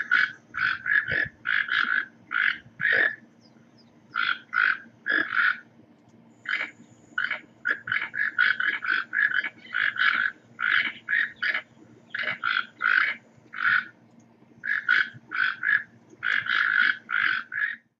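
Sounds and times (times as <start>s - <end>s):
toucan croaking calls: 0.0s - 5.7s, 6.4s - 14.0s, 14.6s - 17.9s.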